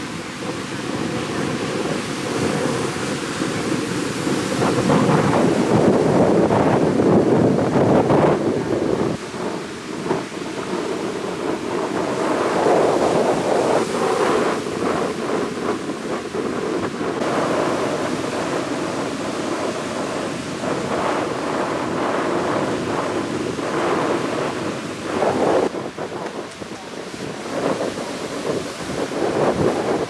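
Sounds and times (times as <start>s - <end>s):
sea surf breaking on beach: 0.0s - 30.0s
wind buffeting microphone: 0.0s - 30.0s.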